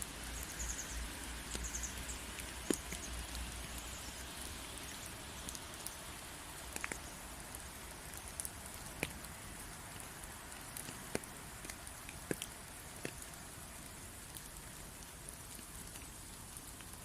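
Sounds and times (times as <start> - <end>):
rain falling: 0.0 - 17.0
water drips: 0.0 - 17.0.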